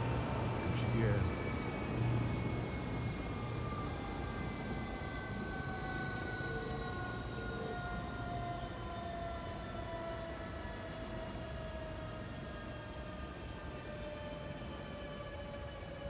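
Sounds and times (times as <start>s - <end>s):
jet engines rushing and whining: 0.0s - 16.0s.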